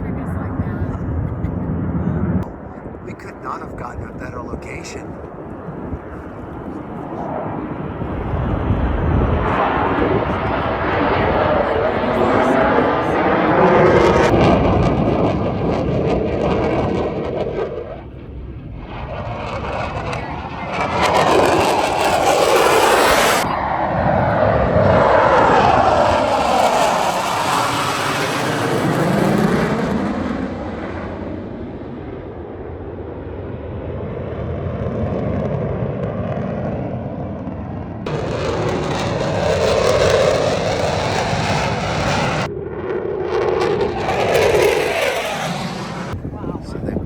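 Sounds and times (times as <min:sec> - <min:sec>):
aircraft roaring past: 0:00.0 - 0:47.0
airplane engine passing overhead: 0:00.0 - 0:47.0.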